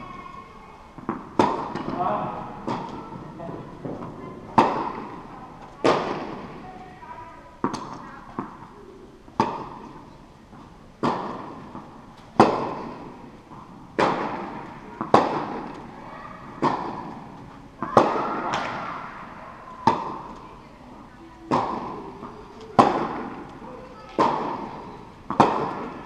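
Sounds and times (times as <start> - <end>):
tennis ball bouncing on court: 1.0 - 6.6, 7.6 - 19.0, 19.8 - 20.4, 21.4 - 26.0.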